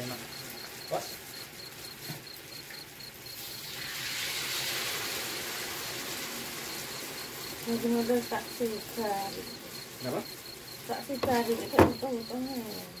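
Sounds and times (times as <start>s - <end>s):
crickets chirping: 0.0s - 13.0s
oil sizzling in a wok: 0.0s - 13.0s.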